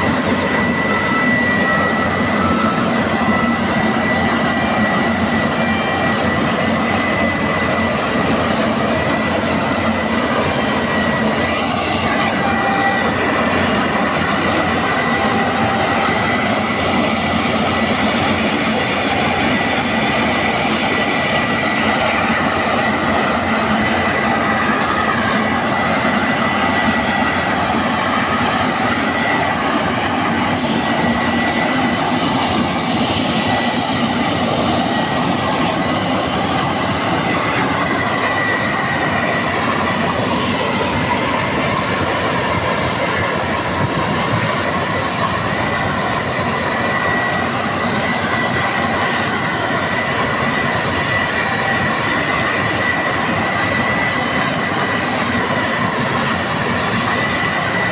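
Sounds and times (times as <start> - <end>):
combine harvester clatter: 0.0 - 57.9
high steady whine: 0.0 - 57.9.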